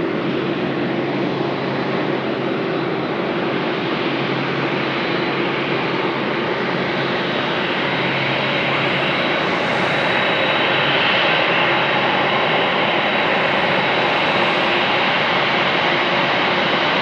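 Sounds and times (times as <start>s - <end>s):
jet airliner engines rushing: 0.0s - 17.0s.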